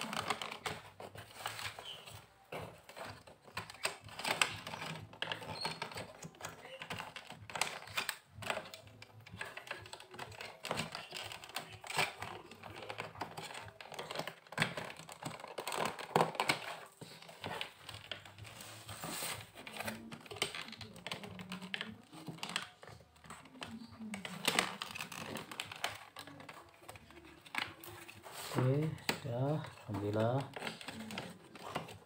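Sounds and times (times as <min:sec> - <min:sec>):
plastic parts clicking and tapping: 0:00.0 - 0:32.0.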